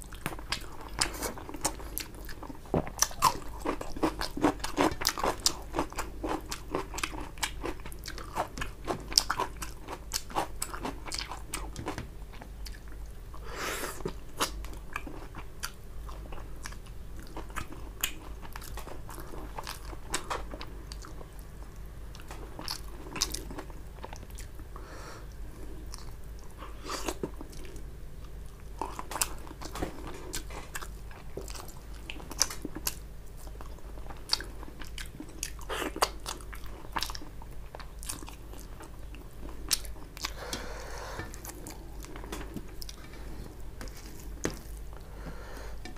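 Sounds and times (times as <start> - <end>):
chewing food: 0.0 - 24.6, 25.3 - 45.9.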